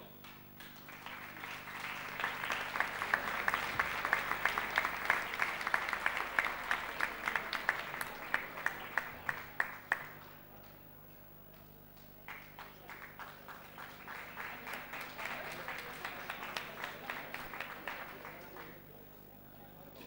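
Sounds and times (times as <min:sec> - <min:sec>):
audience applause: 0:00.0 - 0:10.8, 0:12.1 - 0:18.9.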